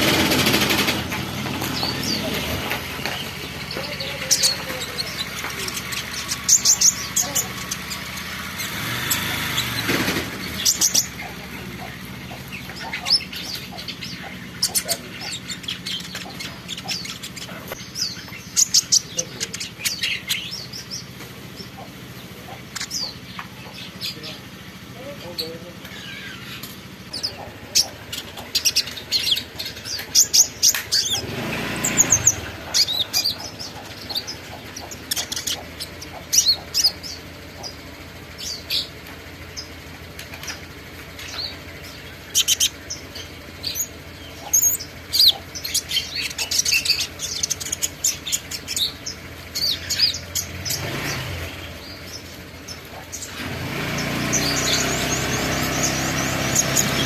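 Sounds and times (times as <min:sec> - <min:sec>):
small songbird chirping: 0:01.6 - 0:57.0.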